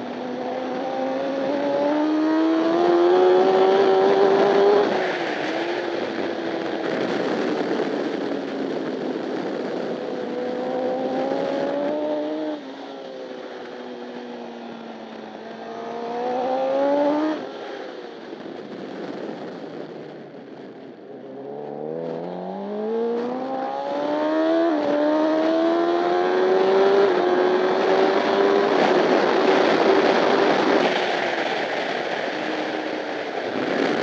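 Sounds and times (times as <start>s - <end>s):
motorcycle engine revving: 0.0s - 8.4s, 9.8s - 13.6s, 14.6s - 17.9s, 21.2s - 34.0s
wind rush: 0.0s - 34.0s.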